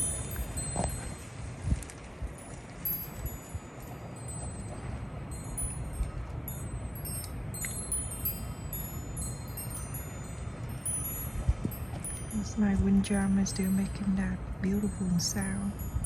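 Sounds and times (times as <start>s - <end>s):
low wind noise: 0.0s - 16.0s
metal wind chime tinkling: 0.0s - 16.0s.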